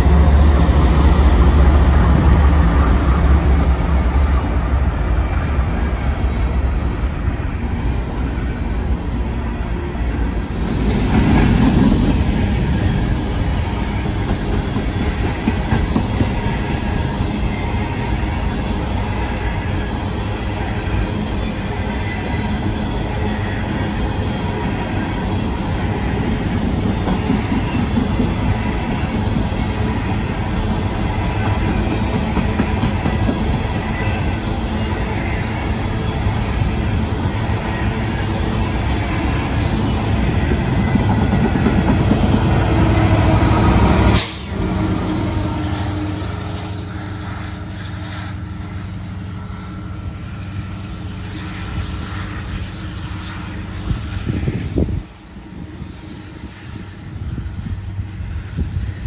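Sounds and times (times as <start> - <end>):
distant diesel locomotive hum: 0.0 - 59.0
freight train wheels on rails: 0.0 - 59.0.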